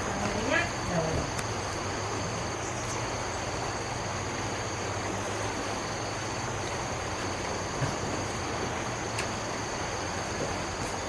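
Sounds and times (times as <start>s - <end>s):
background hiss: 0.0s - 11.0s
insects trilling: 0.0s - 11.0s.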